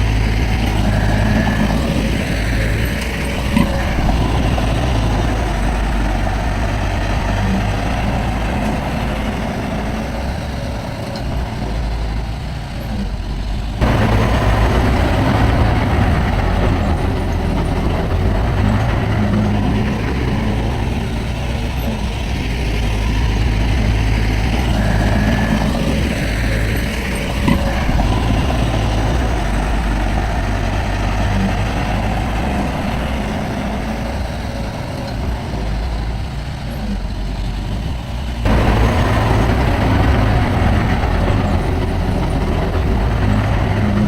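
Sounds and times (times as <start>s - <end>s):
earthmoving machinery engine rumble: 0.0s - 44.0s.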